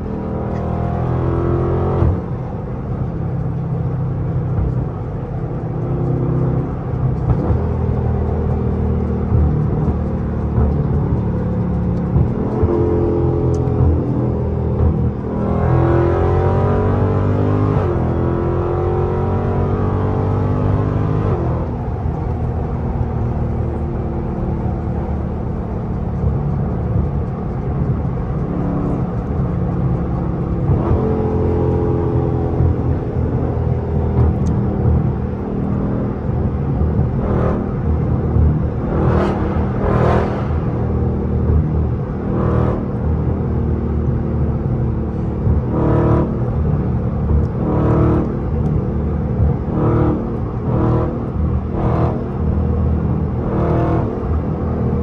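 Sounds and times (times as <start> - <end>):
car engine exhaust rumbling: 0.0 - 55.0.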